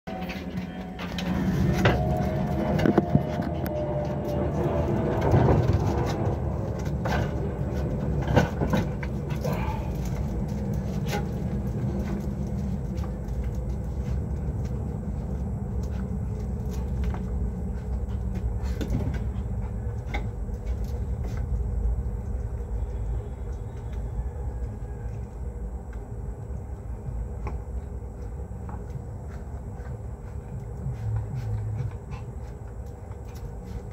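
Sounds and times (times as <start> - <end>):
steady low rumble: 0.1 - 33.9.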